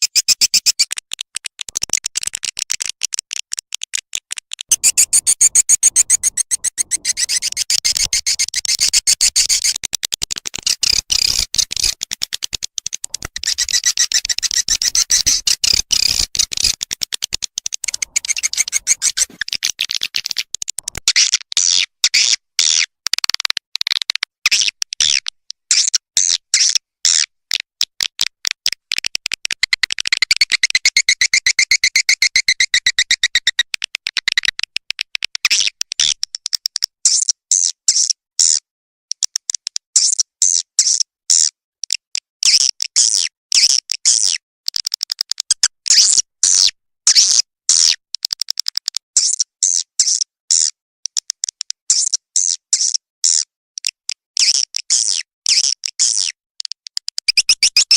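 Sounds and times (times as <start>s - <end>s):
high-pitched bird chirps and clicks: 0.0s - 57.9s.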